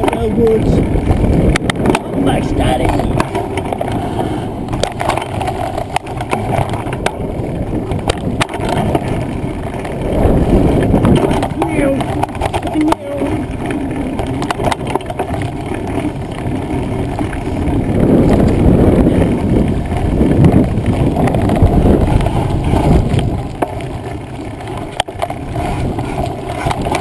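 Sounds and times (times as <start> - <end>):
bike rattling over bumps: 0.0 - 27.0
bike tyres on dirt: 0.0 - 27.0
wind on microphone: 0.0 - 27.0.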